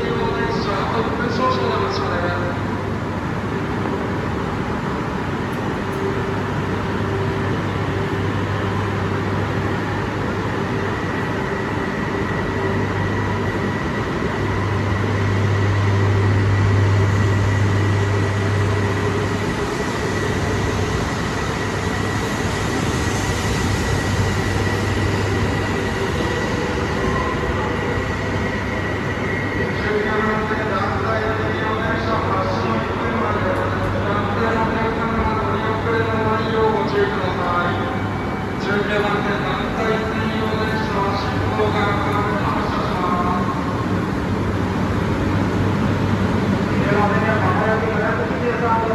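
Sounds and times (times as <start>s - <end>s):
electric train rumbling: 0.0s - 48.9s.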